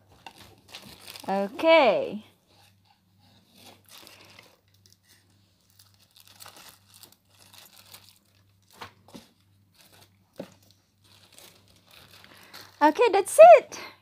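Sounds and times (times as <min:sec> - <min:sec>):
plastic bag crinkling: 0:00.0 - 0:02.2, 0:03.5 - 0:13.5.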